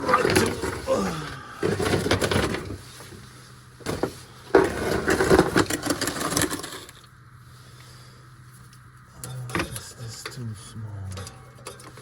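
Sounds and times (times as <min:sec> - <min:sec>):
rustling and scraping: 0:00.0 - 0:09.8
faint low hum: 0:00.0 - 0:12.0.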